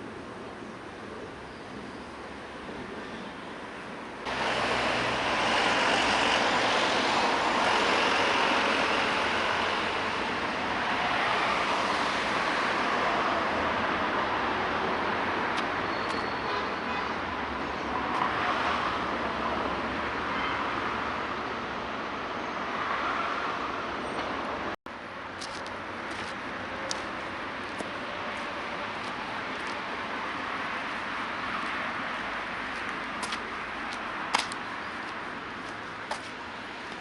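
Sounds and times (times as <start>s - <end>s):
passing cars: 0.0s - 37.0s.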